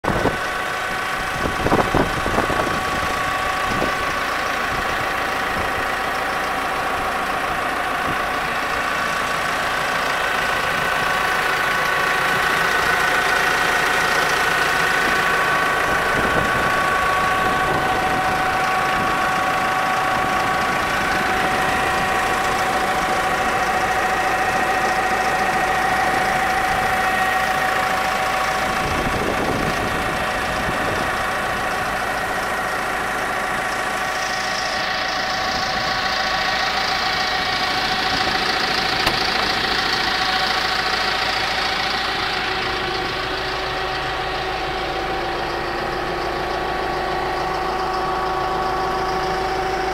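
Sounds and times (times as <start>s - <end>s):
diesel tractor engine idling: 0.0s - 49.9s
steady whine: 0.1s - 49.9s.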